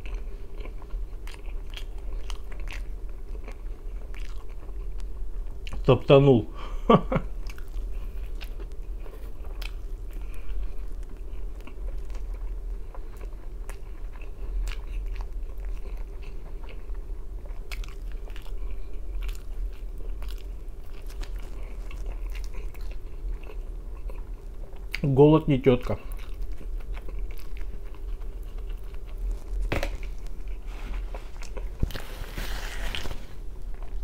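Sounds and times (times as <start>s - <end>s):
person chewing crunchy pizza: 0.0s - 6.1s, 7.1s - 34.0s.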